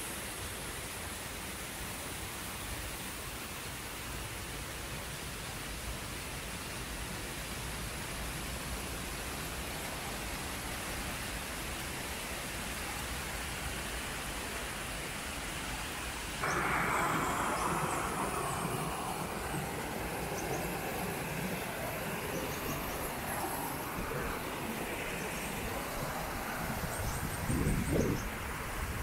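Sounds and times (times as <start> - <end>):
rushing of flowing water: 0.1 - 29.0.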